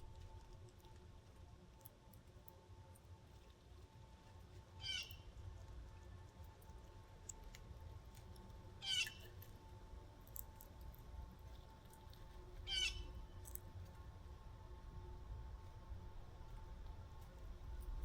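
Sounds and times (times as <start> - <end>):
faint low background rumble: 0.0 - 18.0.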